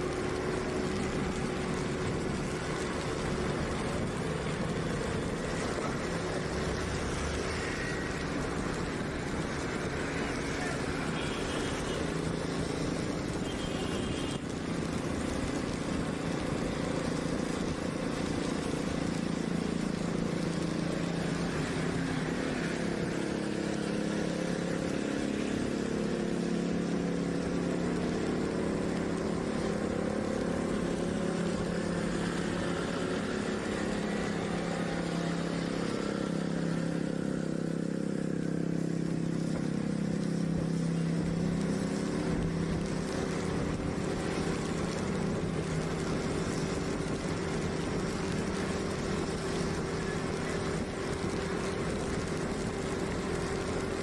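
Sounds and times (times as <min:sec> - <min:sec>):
tyres on wet road: 0:00.0 - 0:54.0.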